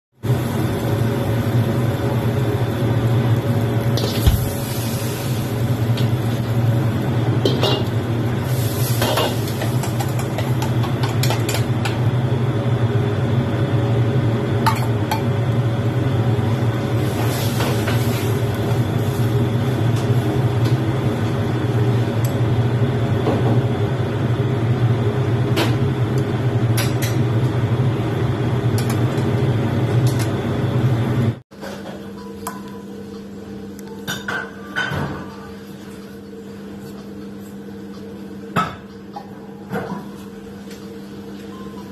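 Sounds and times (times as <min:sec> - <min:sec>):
kitchen equipment humming: 0:00.2 - 0:41.9.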